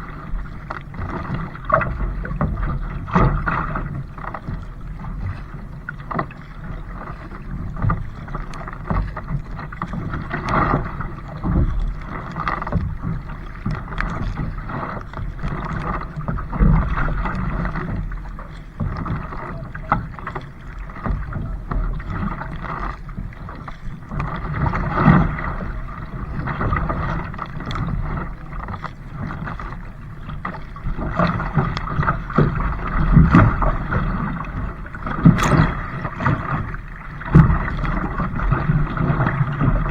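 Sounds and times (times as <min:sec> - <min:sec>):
paddle strokes: 0:00.0 - 0:39.9
water splashing around hull: 0:00.0 - 0:39.9.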